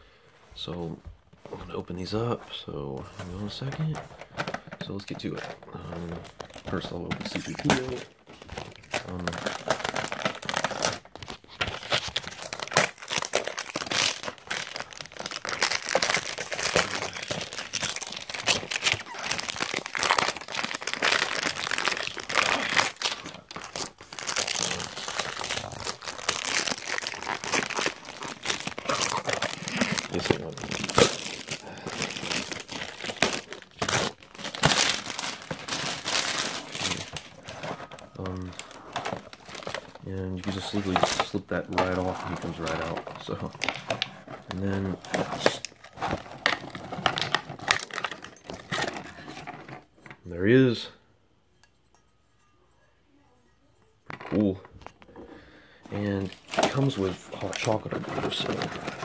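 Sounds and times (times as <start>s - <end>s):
cardboard and plastic packaging crinkling: 0.5s - 50.1s, 54.1s - 59.0s.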